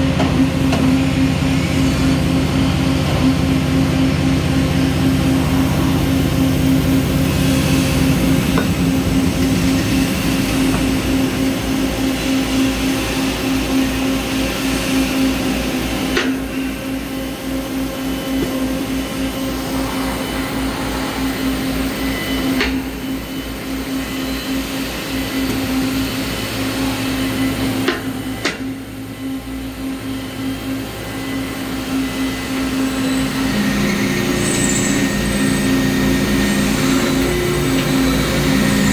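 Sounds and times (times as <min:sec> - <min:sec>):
drilling machine humming: 0:00.0 - 0:38.9.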